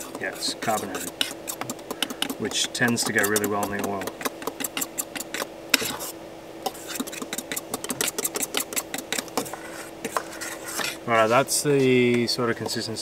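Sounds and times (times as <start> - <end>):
fork whisking in metal bowl: 0.0 - 6.1, 6.7 - 11.0
steady low hum: 0.0 - 13.0.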